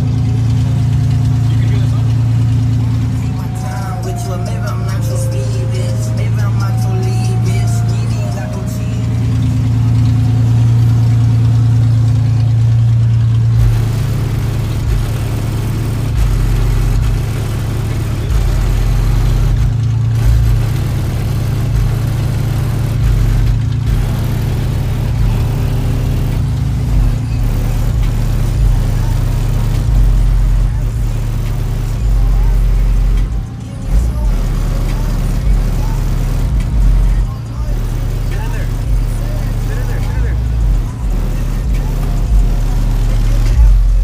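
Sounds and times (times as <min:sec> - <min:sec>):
heavy bass music from subwoofer: 0:00.0 - 0:44.0.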